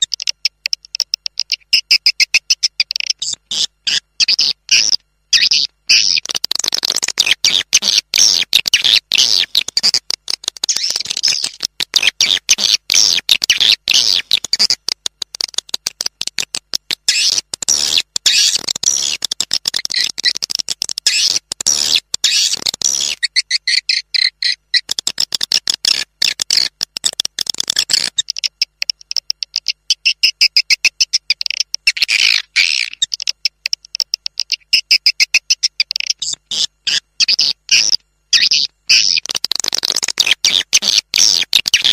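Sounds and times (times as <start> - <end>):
swiftlet chirping and twittering: 0.0 - 14.8, 16.5 - 41.9.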